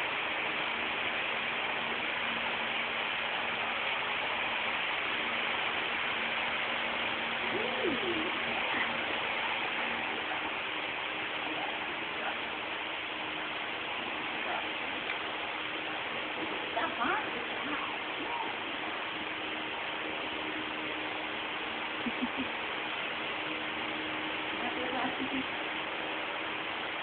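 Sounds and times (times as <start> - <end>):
faint low hum: 0.0 - 27.0
room noise hiss: 0.0 - 27.0.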